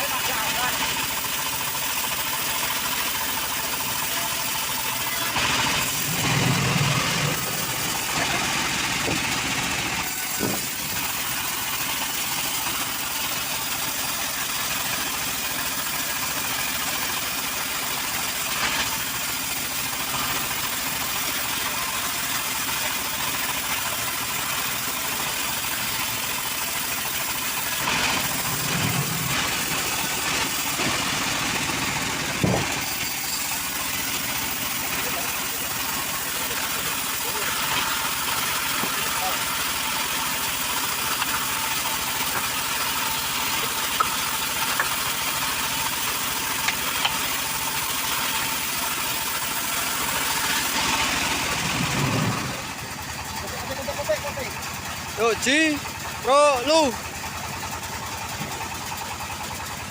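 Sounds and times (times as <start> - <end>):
chainsaw running at high speed: 0.0 - 59.9.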